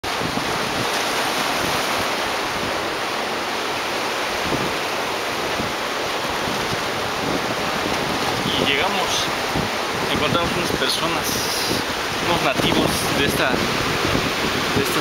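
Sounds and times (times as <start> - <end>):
ocean surf rushing: 0.0 - 15.0
wind buffeting microphone: 0.0 - 15.0.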